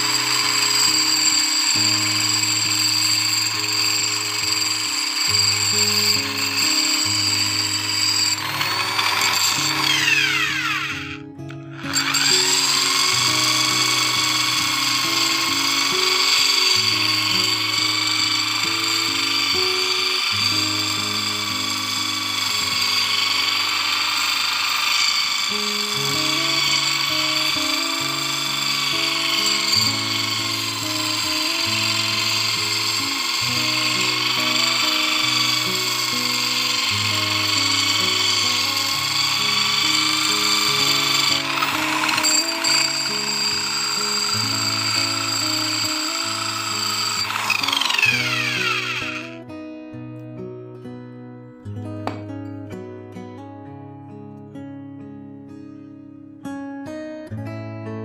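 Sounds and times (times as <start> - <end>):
angle grinder whining: 0.0 - 49.4.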